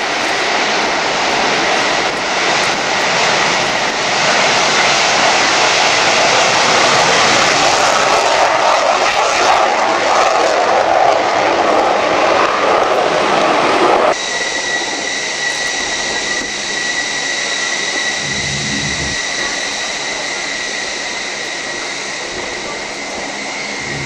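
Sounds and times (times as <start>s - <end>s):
high-pitched turbine whine: 0.0s - 24.0s
loud jet engine takeoff noise: 0.0s - 24.0s.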